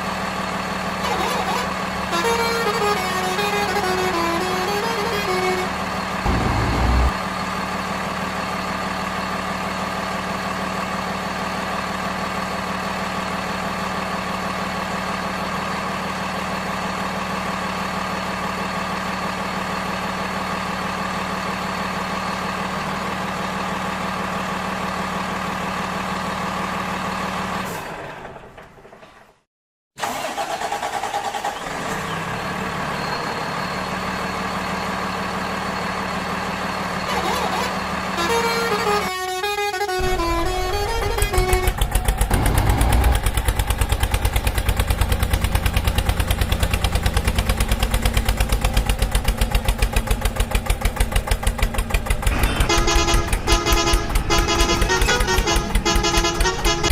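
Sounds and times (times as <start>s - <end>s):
vehicle engine running: 0.0s - 27.6s, 33.6s - 56.9s.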